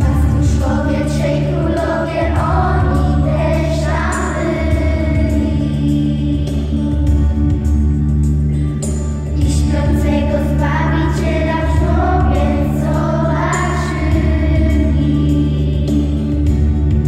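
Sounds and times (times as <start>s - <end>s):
girls singing into a microphone: 0.0s - 7.2s, 9.4s - 16.7s
sustained instrumental accompaniment: 0.0s - 17.0s.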